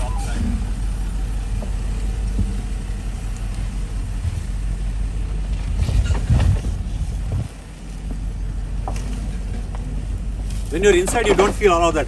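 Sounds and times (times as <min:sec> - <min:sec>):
vehicle engine running low: 0:00.0 - 0:12.0
tyres crunching over rocks: 0:00.4 - 0:12.0.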